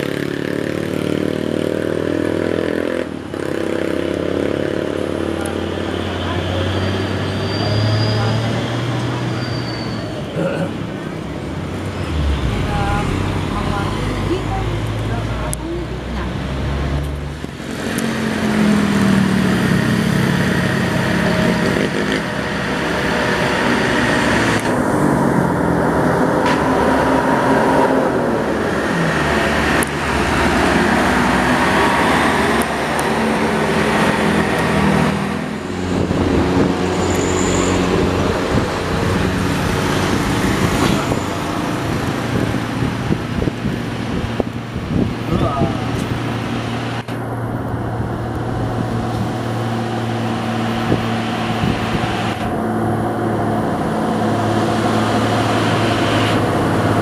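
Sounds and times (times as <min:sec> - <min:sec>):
heavy diesel engines under load: 0:00.0 - 0:57.0.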